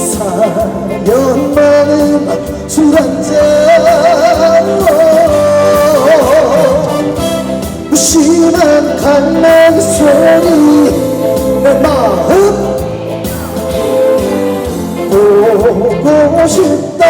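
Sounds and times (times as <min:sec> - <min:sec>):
live band music with singing: 0:00.0 - 0:17.0.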